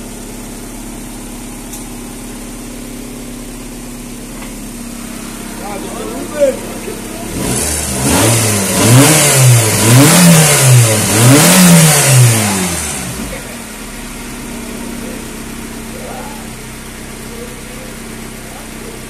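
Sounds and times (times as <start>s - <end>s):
car engine revving and idling: 0.0s - 19.0s.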